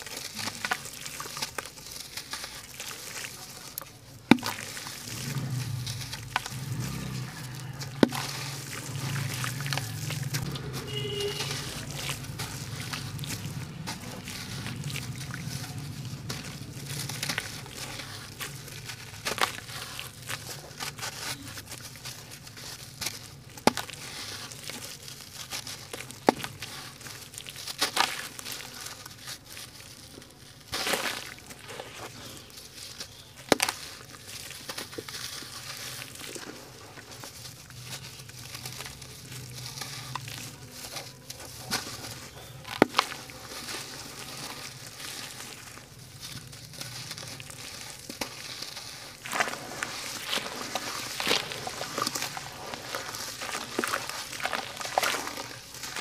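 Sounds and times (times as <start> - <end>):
grit falling into water: 0.0 - 56.0
gritty crunching of sand: 0.0 - 56.0.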